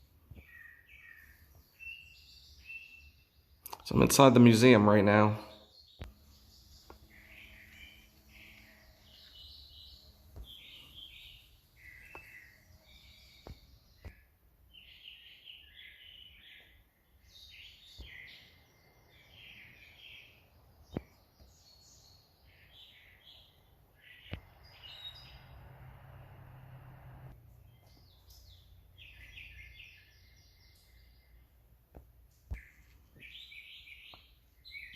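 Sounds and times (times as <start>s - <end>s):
faint birds chirping: 0.0s - 34.9s.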